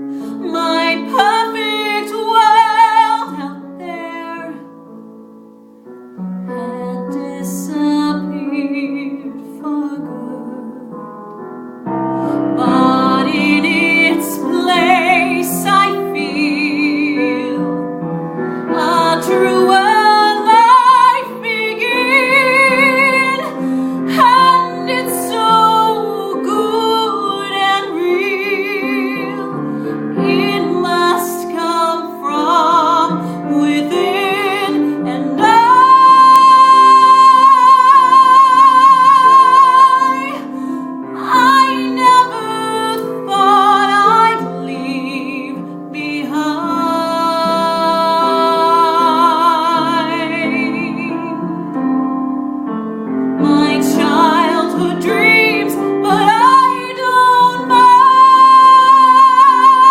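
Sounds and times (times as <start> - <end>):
woman singing ballad with vibrato: 0.0 - 4.7, 6.5 - 11.1, 12.0 - 17.9, 18.6 - 51.8, 53.4 - 59.9
piano accompaniment: 0.0 - 59.9.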